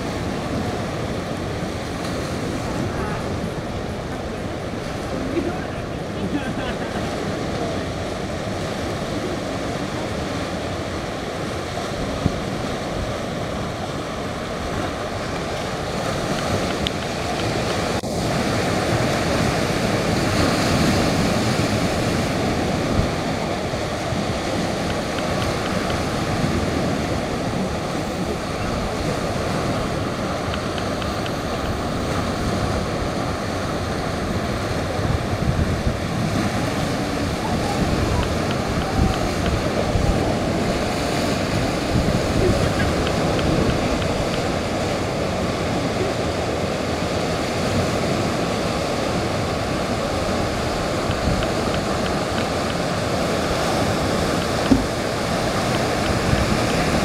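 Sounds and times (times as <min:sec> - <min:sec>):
surf breaking on rocks: 0:00.0 - 0:57.0
wind buffeting microphone: 0:00.0 - 0:57.0.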